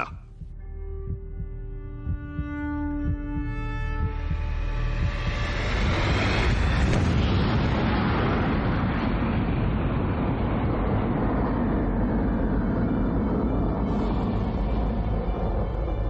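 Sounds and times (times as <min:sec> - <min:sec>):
deep explosion rumble: 0:03.0 - 0:16.0.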